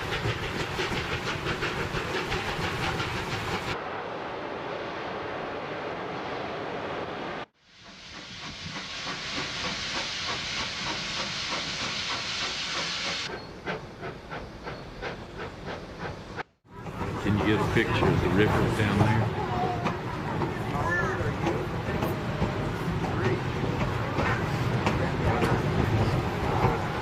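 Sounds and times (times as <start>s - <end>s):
rhythmic train beat: 0.0s - 3.8s, 8.1s - 27.0s
steam train hissing: 0.0s - 4.0s, 7.6s - 27.0s.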